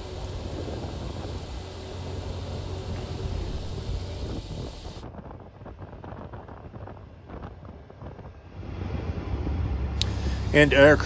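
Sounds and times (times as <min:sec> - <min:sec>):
wind buffeting microphone: 0:00.0 - 0:10.8
crackling wind noise: 0:00.0 - 0:11.0
heavy low rumble: 0:00.0 - 0:11.0.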